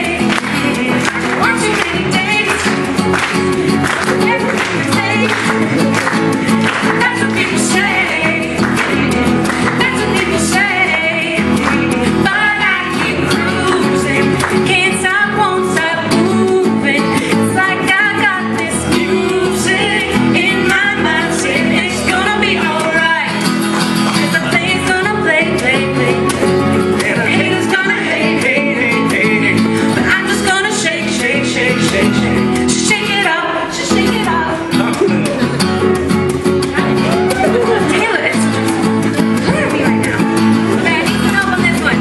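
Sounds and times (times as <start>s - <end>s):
people clapping in time: 0.0s - 16.6s, 18.2s - 33.0s, 34.8s - 42.0s
woman singing: 0.0s - 23.6s, 24.2s - 34.9s, 36.7s - 38.7s, 39.4s - 42.0s
electric guitar: 0.0s - 42.0s
strummed acoustic guitar: 0.0s - 42.0s.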